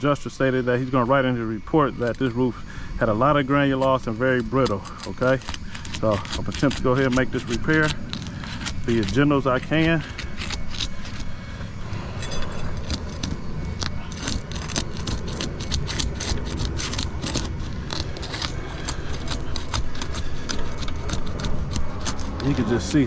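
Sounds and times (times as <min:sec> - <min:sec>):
low steady rumble: 0:00.0 - 0:23.0
shingle crackling and tearing: 0:00.0 - 0:23.0.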